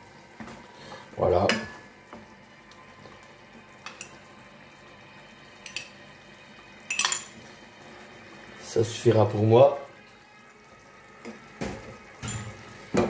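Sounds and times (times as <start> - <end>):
sauce simmering in a pan: 0.0 - 13.0.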